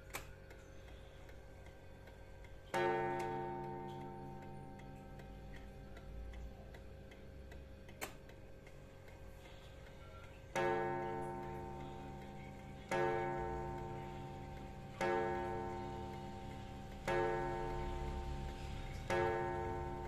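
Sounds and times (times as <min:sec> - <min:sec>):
clock striking the hour: 0:00.0 - 0:20.0.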